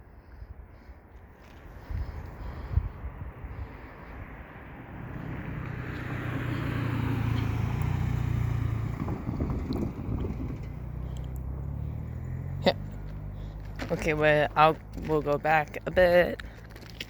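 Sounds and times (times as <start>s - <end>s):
diesel locomotive engine drone: 1.6s - 17.0s.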